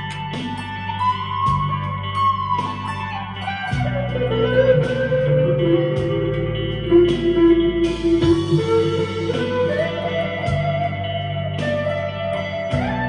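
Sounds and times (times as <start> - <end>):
electric guitar ringing notes: 0.0 - 13.0.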